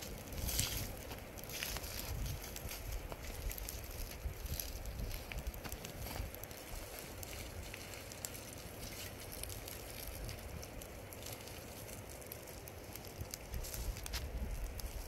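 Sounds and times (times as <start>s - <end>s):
burning grass crackling: 0.0s - 15.0s.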